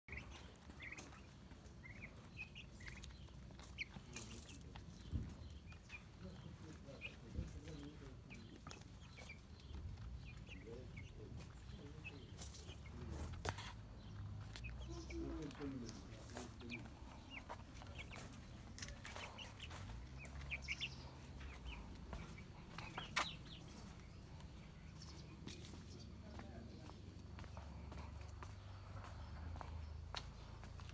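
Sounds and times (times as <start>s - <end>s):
chicks pecking clicks: 0.1s - 13.1s, 14.0s - 25.7s
chicks peeping: 0.1s - 30.9s.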